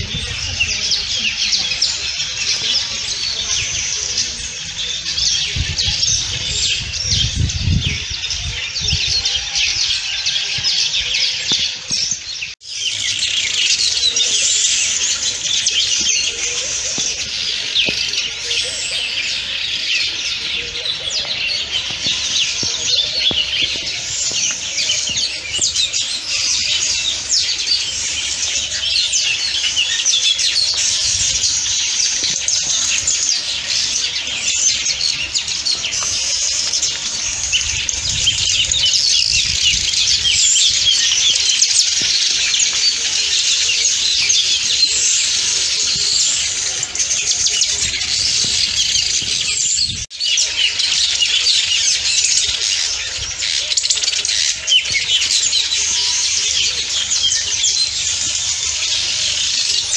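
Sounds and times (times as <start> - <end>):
birds chirping in chorus: 0.0 - 59.9.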